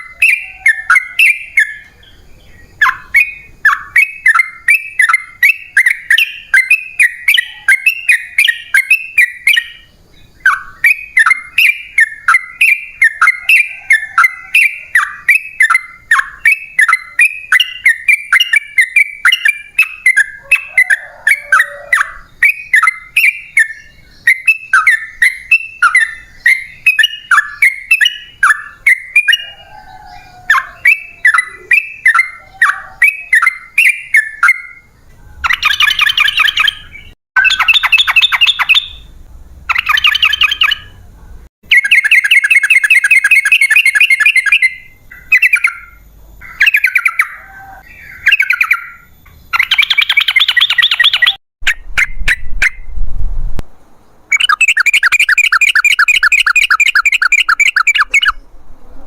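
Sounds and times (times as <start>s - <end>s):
bird singing bubbling chirps: 0.0s - 41.0s, 41.7s - 51.4s, 54.3s - 58.5s
harsh buzzy bird chatter: 0.0s - 41.1s, 41.7s - 51.4s.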